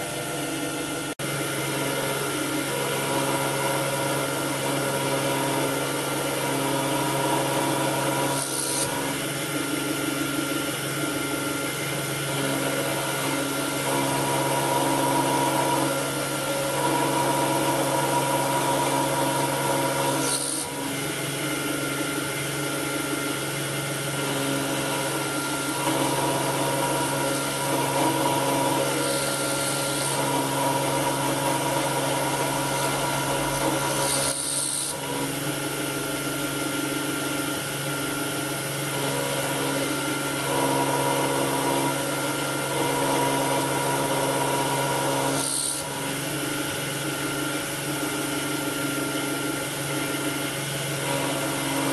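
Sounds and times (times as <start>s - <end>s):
end mill cutting metal: 0.0s - 51.9s
spindle motor whine: 0.0s - 51.9s.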